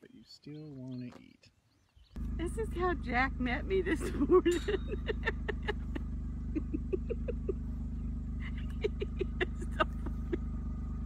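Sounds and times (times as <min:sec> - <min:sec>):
low motor hum: 0:02.0 - 0:11.0.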